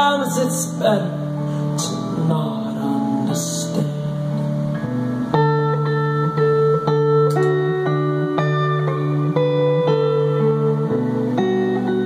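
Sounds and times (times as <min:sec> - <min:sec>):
electric guitar ringing chords: 0:00.0 - 0:12.0.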